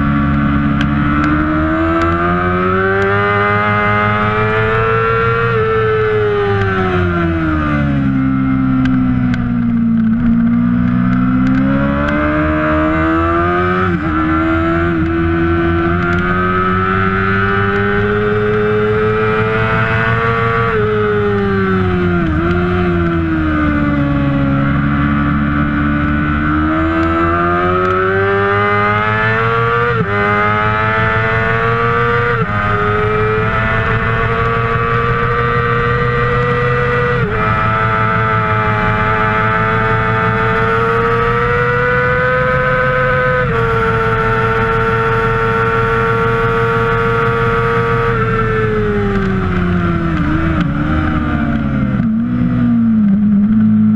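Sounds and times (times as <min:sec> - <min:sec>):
motorcycle engine racing at high revs: 0:00.0 - 0:53.9.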